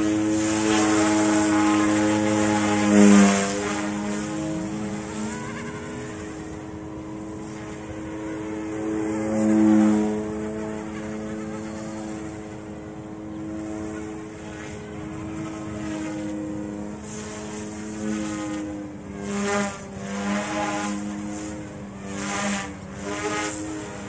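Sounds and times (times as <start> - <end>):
rc helicopter rotor whine: 0.0 - 24.0.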